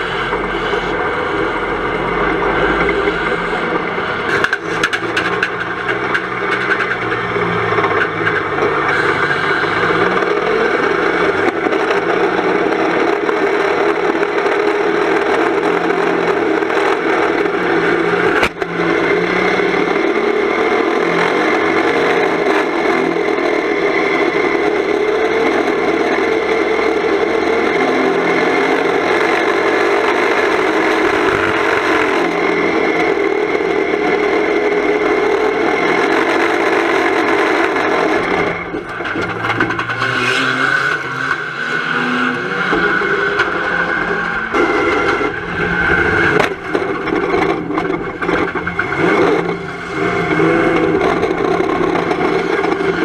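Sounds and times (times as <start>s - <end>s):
car engine running hard: 0.0s - 53.0s.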